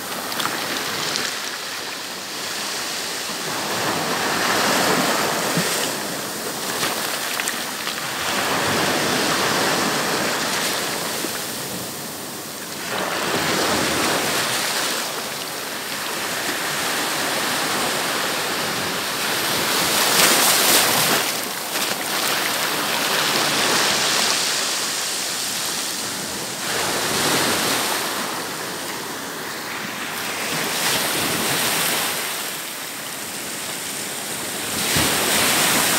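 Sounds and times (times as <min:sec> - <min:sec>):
sea waves breaking on beach: 0:00.0 - 0:35.9.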